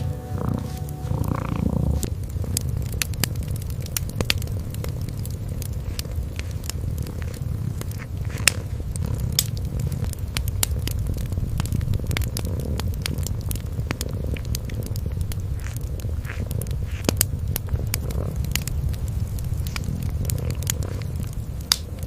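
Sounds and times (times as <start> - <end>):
kitten purring: 0.0 - 22.0
wood fire crackling: 0.0 - 22.0.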